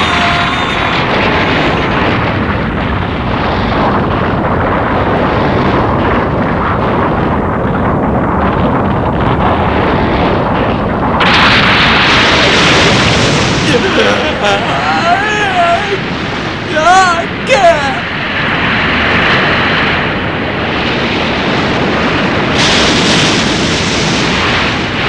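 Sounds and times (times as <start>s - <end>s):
earthquake rumbling: 0.0s - 25.0s
loud blast: 0.0s - 25.0s.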